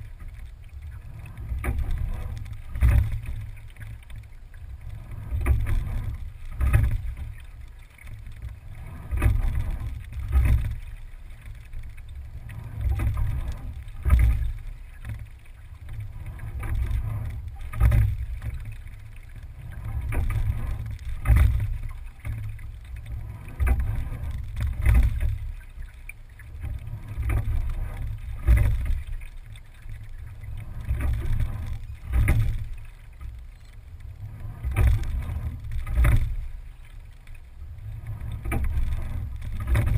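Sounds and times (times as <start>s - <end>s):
low rumble of rowing stroke: 0.0s - 39.9s.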